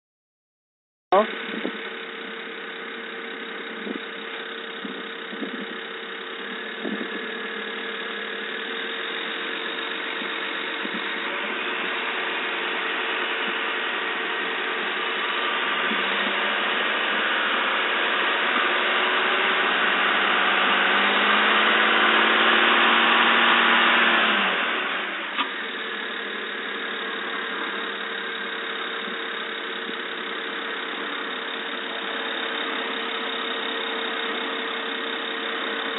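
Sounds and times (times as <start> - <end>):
car engine running with ticks: 1.1 - 35.9.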